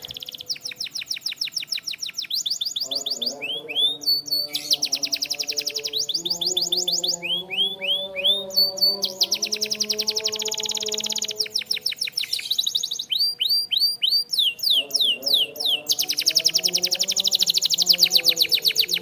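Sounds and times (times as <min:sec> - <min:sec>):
canary trilling: 0:00.0 - 0:19.0.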